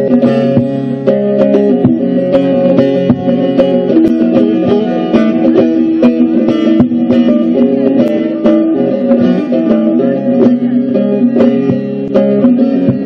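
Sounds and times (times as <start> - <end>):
long-necked lute folk melody: 0.0 - 13.0.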